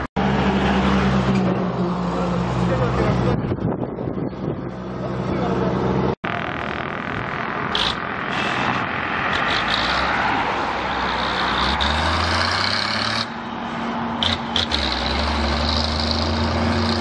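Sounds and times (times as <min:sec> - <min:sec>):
road and wind noise: 0:00.0 - 0:17.0
vehicle engine humming: 0:00.0 - 0:17.0.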